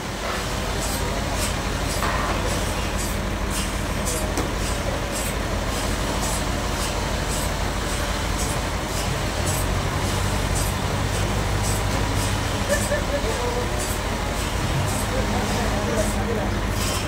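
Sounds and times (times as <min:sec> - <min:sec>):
bandsaw machinery humming: 0:00.0 - 0:17.0.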